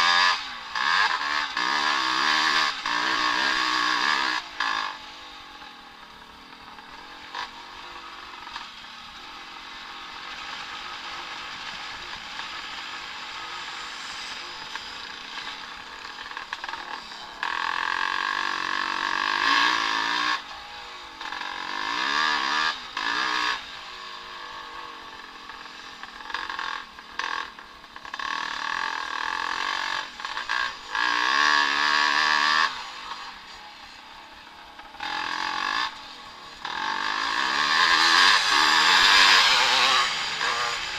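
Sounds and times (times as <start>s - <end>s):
motocross bike engines revving: 0.0s - 40.9s.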